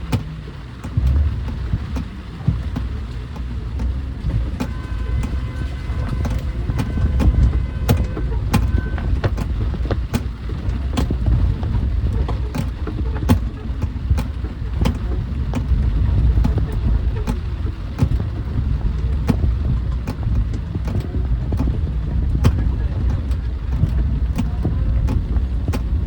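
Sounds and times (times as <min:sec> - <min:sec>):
rain tapping: 0:00.0 - 0:26.0
road traffic rumble: 0:00.0 - 0:26.0.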